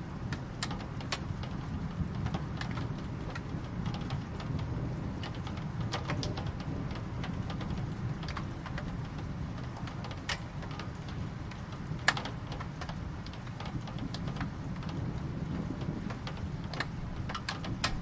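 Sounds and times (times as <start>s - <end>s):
rain falling: 0.0s - 18.0s
steady low rumble: 0.0s - 18.0s.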